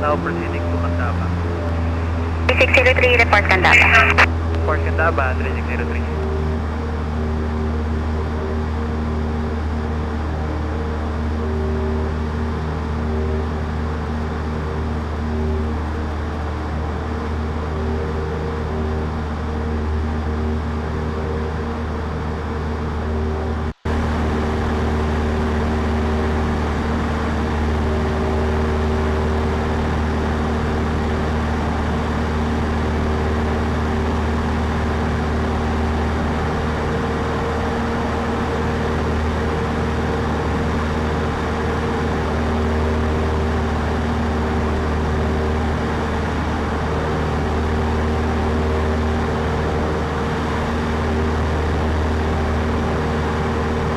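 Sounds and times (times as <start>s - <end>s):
light aircraft engine droning: 0.0s - 53.9s.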